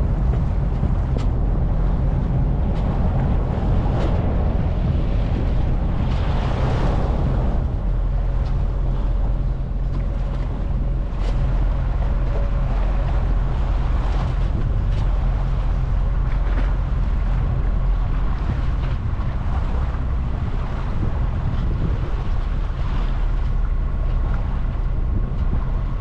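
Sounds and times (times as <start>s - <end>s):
boat engine droning: 0.0s - 26.0s
water washing past hull: 0.0s - 26.0s
wind noise on microphone: 0.0s - 26.0s.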